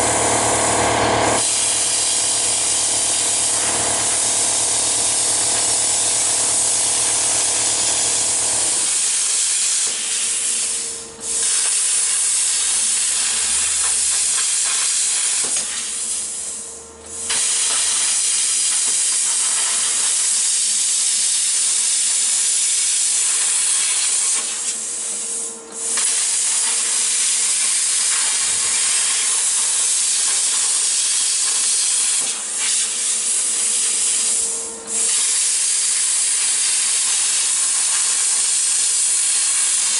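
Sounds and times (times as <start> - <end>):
plasma cutter hissing: 0.1 - 39.9.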